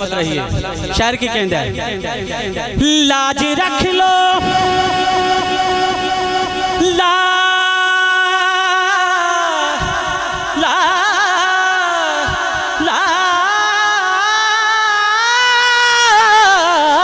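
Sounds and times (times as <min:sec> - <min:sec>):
man singing: 0:01.0 - 0:17.0.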